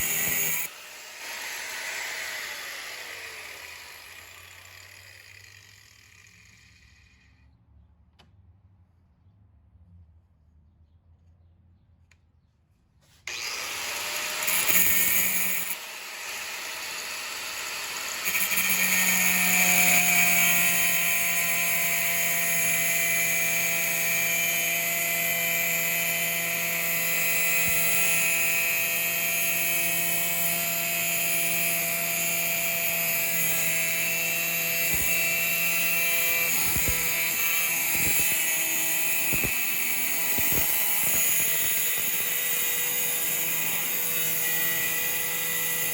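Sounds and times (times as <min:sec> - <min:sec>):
electric power tool motor whine: 0:00.0 - 0:07.3, 0:13.3 - 0:45.9.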